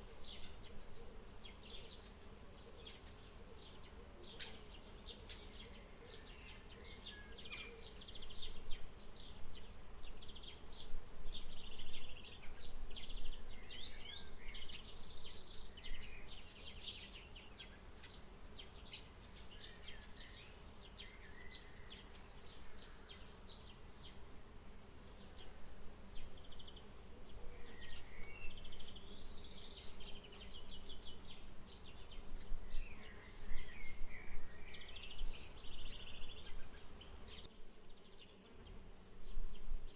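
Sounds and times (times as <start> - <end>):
faint steady buzz: 0.0 - 39.9
small birds chirping: 0.0 - 39.9.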